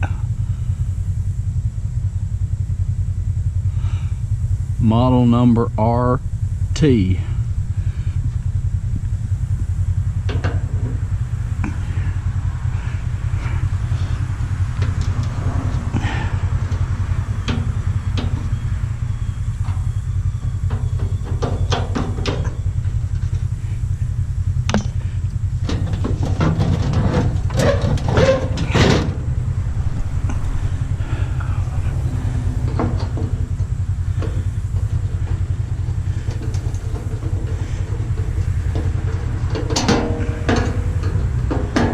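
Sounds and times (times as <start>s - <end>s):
low hum: 0.0s - 41.9s.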